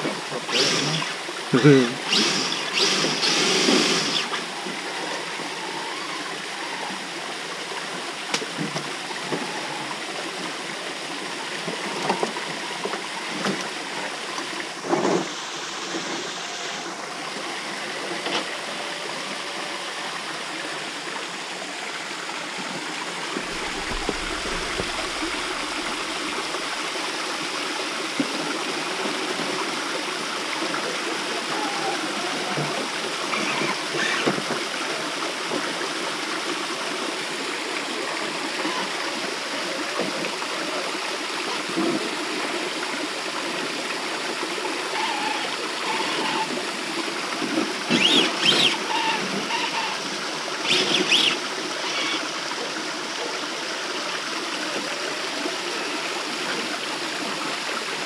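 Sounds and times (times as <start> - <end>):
creek water rushing over stones: 0.0 - 58.0.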